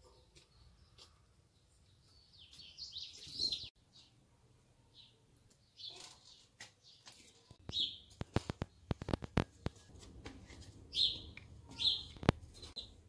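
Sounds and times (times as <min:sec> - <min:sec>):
bird chirps: 0:00.4 - 0:04.2, 0:04.9 - 0:09.9, 0:10.9 - 0:13.0.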